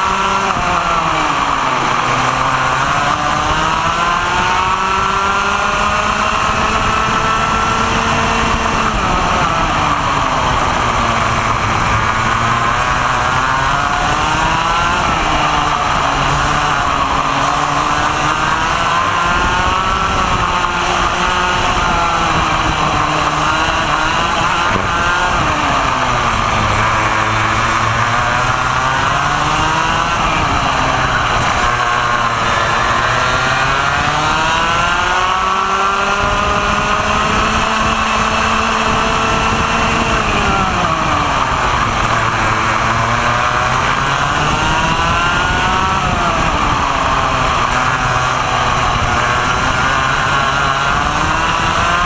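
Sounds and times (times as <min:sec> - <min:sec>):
kart engine racing: 0:00.0 - 0:52.0.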